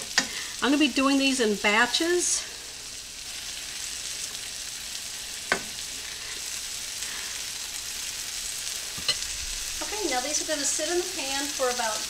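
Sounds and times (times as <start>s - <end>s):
steaks sizzling in a skillet: 0.0s - 12.0s.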